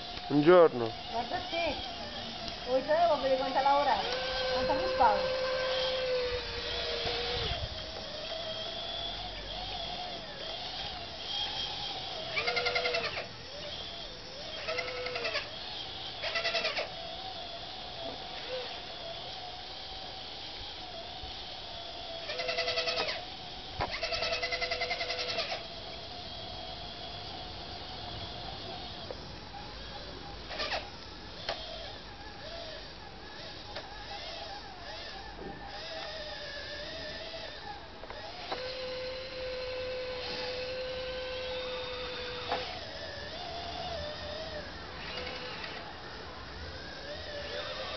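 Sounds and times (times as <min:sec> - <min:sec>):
model bulldozer drive whine: 0:00.0 - 0:47.9.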